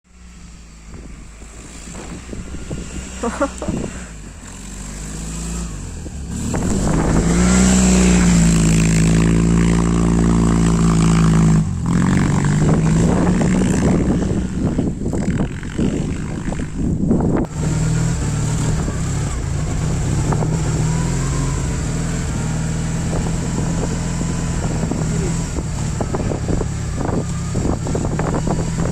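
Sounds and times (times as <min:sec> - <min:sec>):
car engine revving unevenly: 0:00.1 - 0:28.9.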